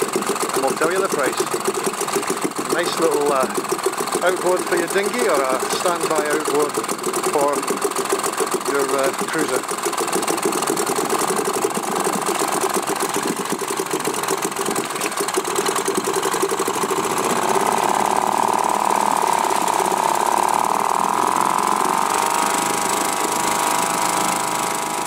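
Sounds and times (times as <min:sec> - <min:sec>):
outboard motor running: 0:00.0 - 0:25.0
propeller churning water: 0:00.0 - 0:25.0.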